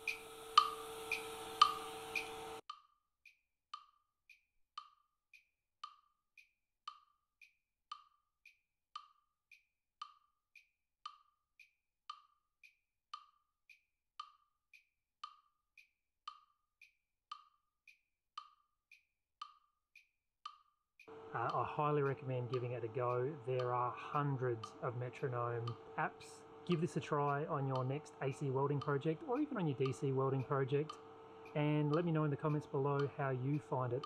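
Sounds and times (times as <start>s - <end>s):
metronome clicking: 0.0s - 2.8s, 3.7s - 34.0s.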